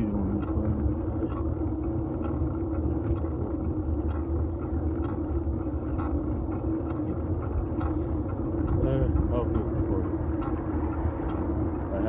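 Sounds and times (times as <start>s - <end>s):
bike road rumble: 0.0s - 12.0s
light ticks from bumps: 0.0s - 12.0s.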